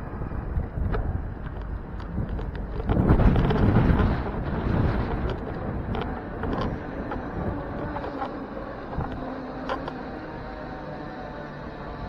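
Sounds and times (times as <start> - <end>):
bicycle road rumble: 0.0 - 12.0
wind on microphone: 0.0 - 12.0
bike clicks and rattles: 0.3 - 11.0.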